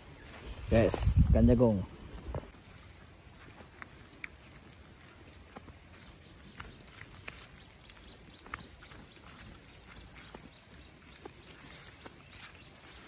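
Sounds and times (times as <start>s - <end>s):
faint footsteps on dirt path: 0.0s - 13.0s.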